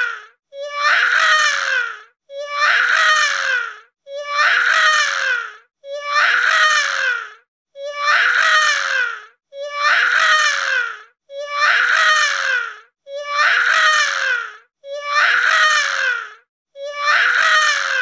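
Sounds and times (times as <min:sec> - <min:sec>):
infant-like wailing cries: 0:00.0 - 0:18.0.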